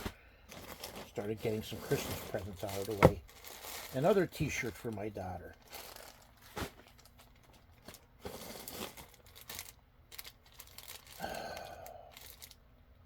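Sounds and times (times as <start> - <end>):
packaging crinkling and ripping: 0.0 - 12.6
packaging rustling: 0.0 - 12.6.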